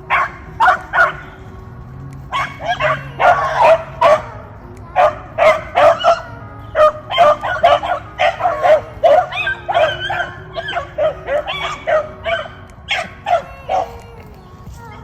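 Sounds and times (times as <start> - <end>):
dogs baying and yipping: 0.0 - 15.0.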